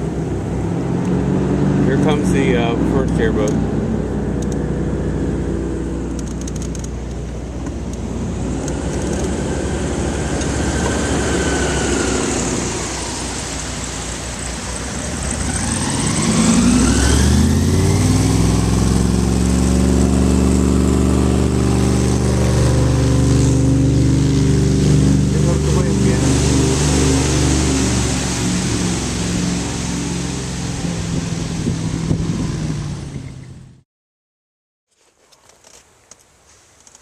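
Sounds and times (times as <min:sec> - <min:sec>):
airboat engine and propeller: 0:00.0 - 0:33.8.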